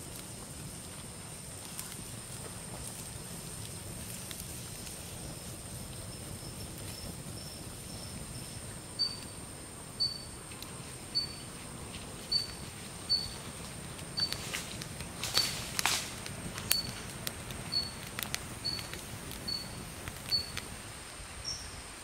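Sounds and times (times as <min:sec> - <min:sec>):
wood fire crackling: 0:00.0 - 0:21.4.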